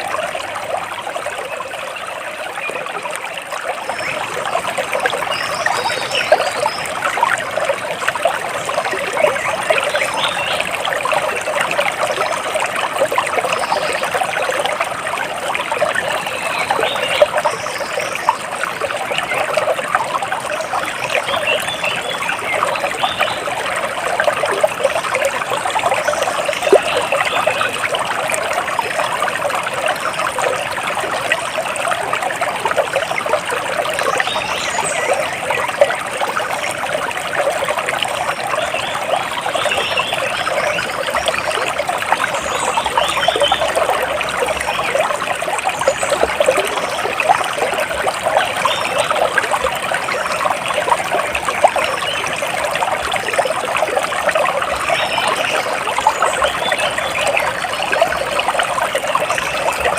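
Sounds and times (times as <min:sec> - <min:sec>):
stream splashing over stones: 0:00.0 - 0:59.9.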